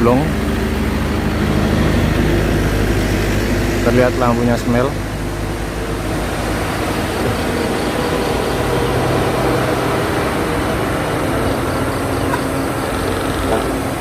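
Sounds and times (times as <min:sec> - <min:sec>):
diesel bus engine labouring: 0:00.0 - 0:14.0.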